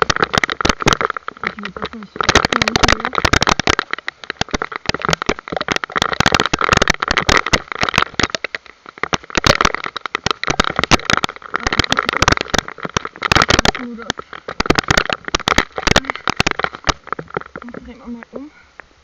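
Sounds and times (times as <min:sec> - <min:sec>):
rain pelting microphone: 0:00.0 - 0:19.0.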